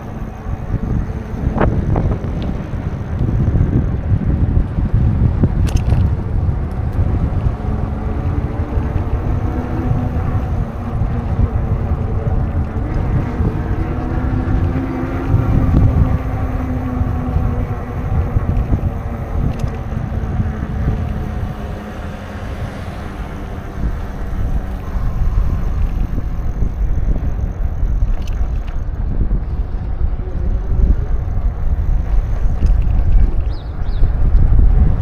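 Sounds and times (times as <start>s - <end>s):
faint motor hum: 0.0s - 35.0s
wind buffeting microphone: 0.0s - 35.0s.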